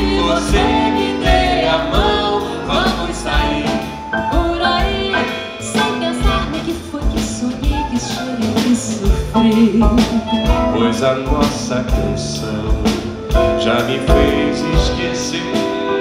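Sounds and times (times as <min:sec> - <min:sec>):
live band playing instrumental: 0:00.0 - 0:16.0.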